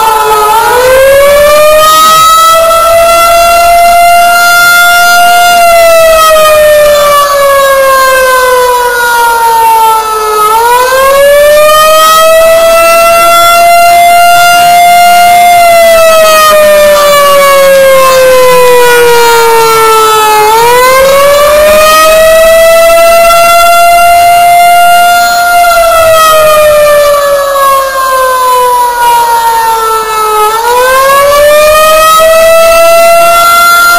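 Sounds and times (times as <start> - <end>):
warning siren wailing: 0.0 - 33.9.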